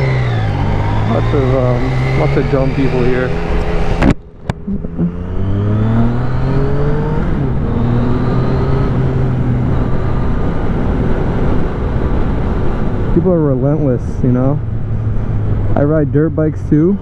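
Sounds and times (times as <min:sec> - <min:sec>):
motorcycle engine pulling away: 0:00.0 - 0:17.0.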